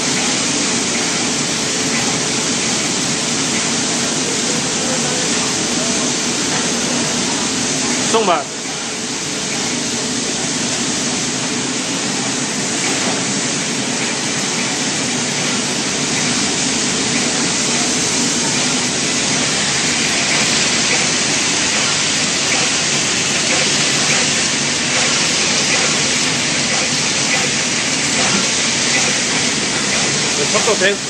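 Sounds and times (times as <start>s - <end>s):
machinery hissing steadily: 0.0s - 31.0s.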